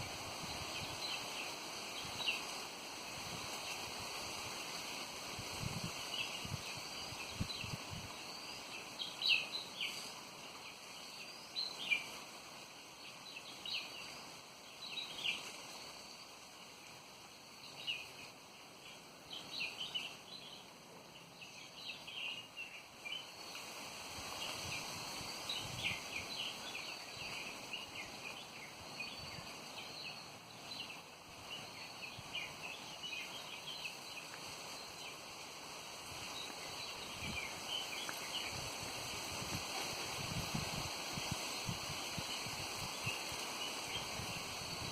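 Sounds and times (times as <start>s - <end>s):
wind rumbling on microphone: 0.0s - 12.6s, 21.5s - 44.9s
small birds chirping: 0.0s - 44.9s.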